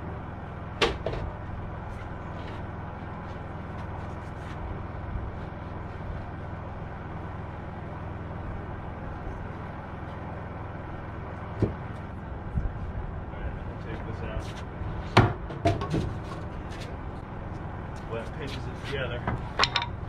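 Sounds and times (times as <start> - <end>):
steady low motor hum: 0.0 - 20.0.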